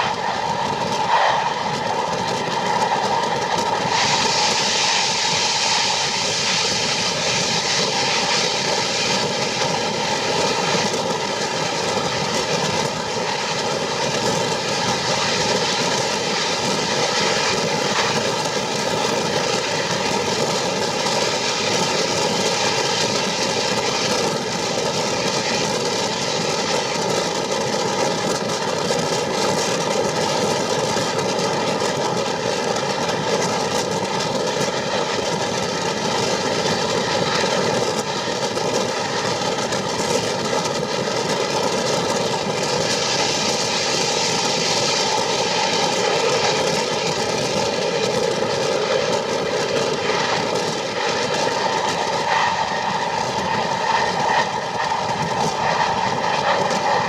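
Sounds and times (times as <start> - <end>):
train rumble and hiss: 0.0 - 57.0.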